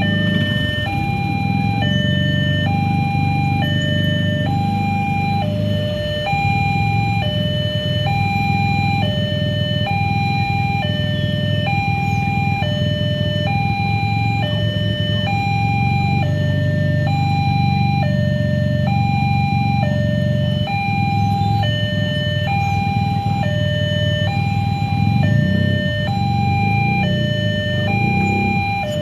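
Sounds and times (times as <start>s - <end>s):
low engine rumble: 0.0s - 29.0s
two-tone crossing alarm: 0.0s - 29.0s.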